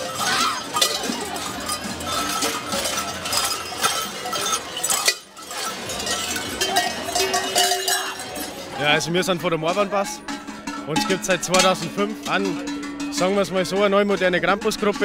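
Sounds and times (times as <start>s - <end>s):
large cowbells clanging: 0.0s - 15.0s.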